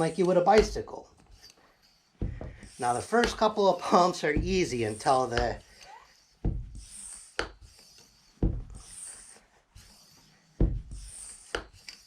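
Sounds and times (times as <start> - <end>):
hand pump strokes with hiss: 0.0 - 12.0.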